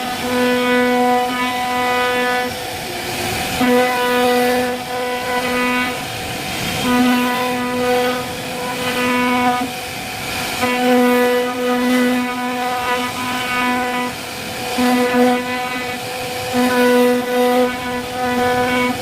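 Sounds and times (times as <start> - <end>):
bit cutting wood hiss: 0.0 - 19.0.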